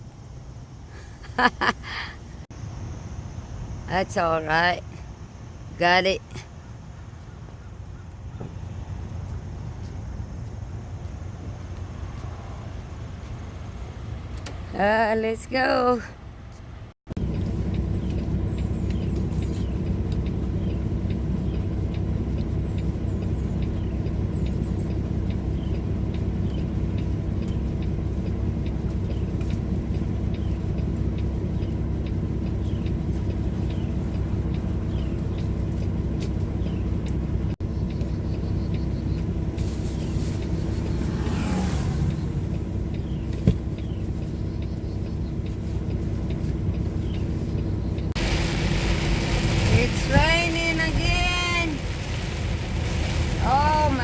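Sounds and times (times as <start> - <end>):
diesel truck engine droning: 2.5 - 54.0.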